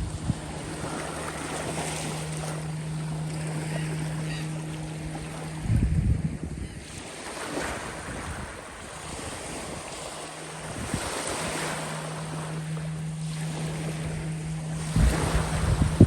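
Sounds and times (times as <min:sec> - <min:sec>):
steady low hum: 0:00.0 - 0:16.0
waves washing in: 0:00.0 - 0:16.0
wind buffeting microphone: 0:00.0 - 0:16.0.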